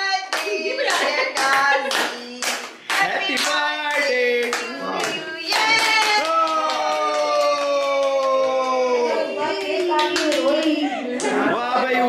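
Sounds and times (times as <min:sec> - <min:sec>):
voices singing: 0:00.0 - 0:12.0
hands clapping along: 0:00.3 - 0:11.4.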